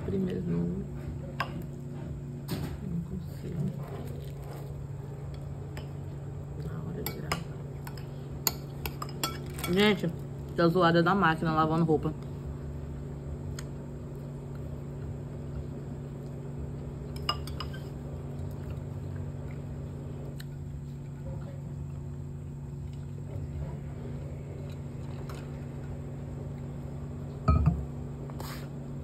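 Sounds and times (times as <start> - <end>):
washing machine hum and rumble: 0.0 - 29.0.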